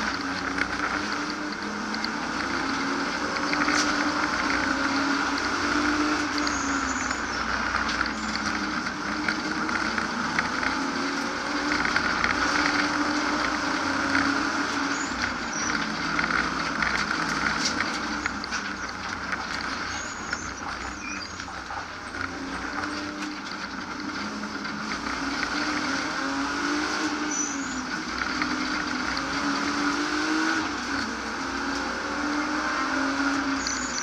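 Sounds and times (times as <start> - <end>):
car engine running hard: 0.0 - 34.0
road and wind noise: 0.0 - 34.0.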